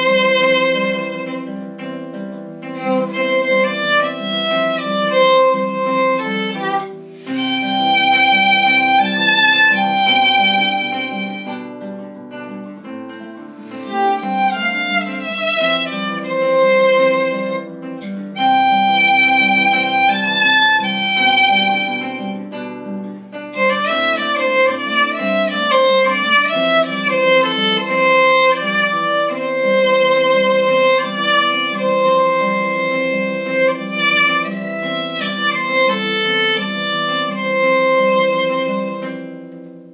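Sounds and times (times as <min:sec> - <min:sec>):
violin playing slow melody: 0:00.0 - 0:01.6, 0:02.6 - 0:11.7, 0:13.6 - 0:39.3
plucked string accompaniment: 0:00.0 - 0:39.9.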